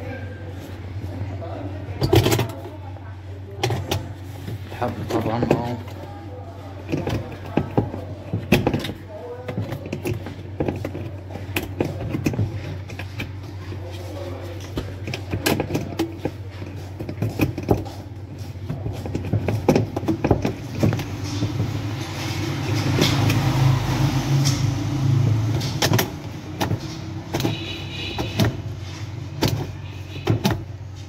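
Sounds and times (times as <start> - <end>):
plastic parts clicking and knocking: 1.9 - 2.8, 3.5 - 6.1, 6.8 - 23.6, 24.4 - 31.0.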